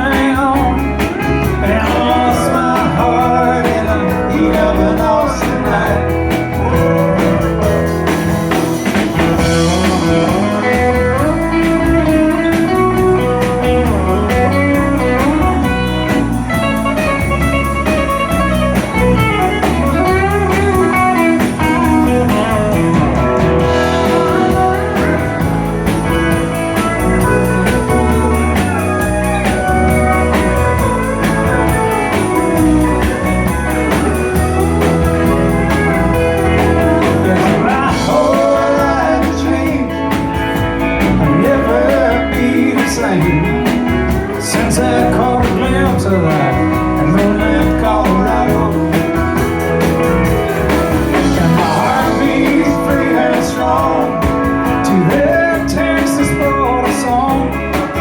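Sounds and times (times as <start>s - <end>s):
country band playing: 0.0s - 58.0s
guitar: 0.0s - 58.0s
steady drum beat: 0.0s - 58.0s.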